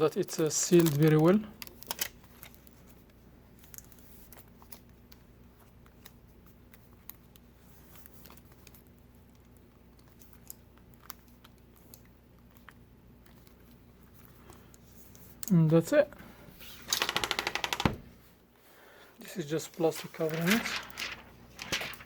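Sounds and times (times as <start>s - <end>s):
low steady hum: 0.0s - 17.0s, 17.7s - 22.0s.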